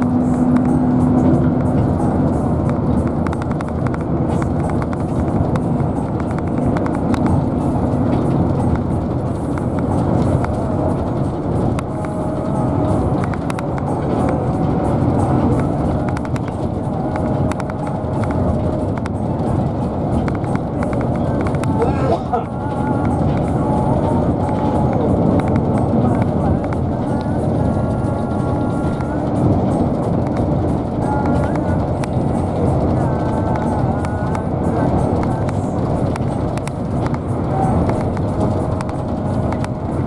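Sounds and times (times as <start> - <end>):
music playing: 0.0 - 40.0
vehicle rumbling on road: 0.0 - 40.0.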